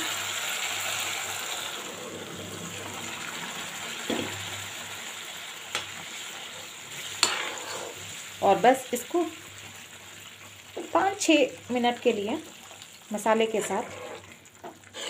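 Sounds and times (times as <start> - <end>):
soft simmer: 0.0 - 15.0.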